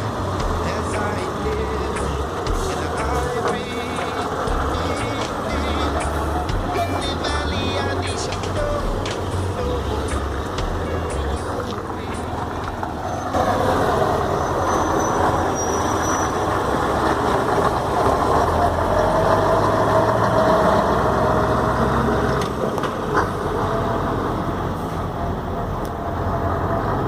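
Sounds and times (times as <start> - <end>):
diesel truck engine running: 0.0 - 27.0.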